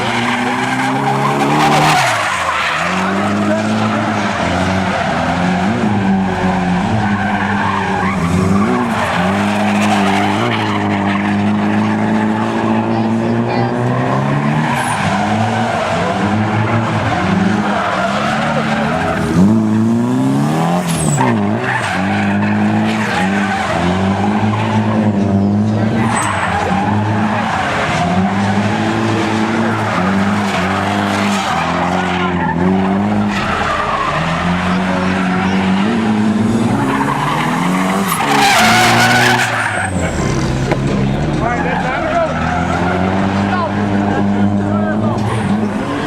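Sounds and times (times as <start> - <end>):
car engine revving: 0.0 - 46.0
tires squealing: 0.0 - 46.0.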